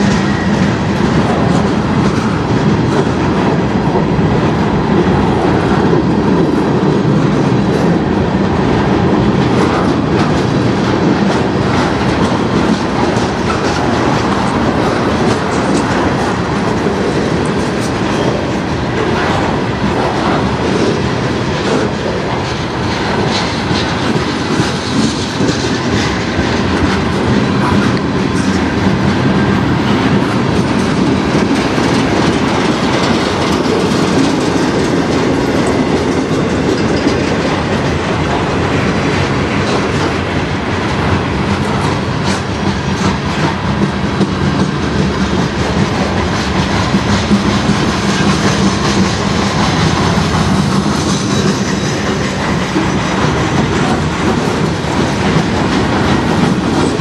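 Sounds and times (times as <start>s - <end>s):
rumble of wheels on rail: 0.0s - 57.0s.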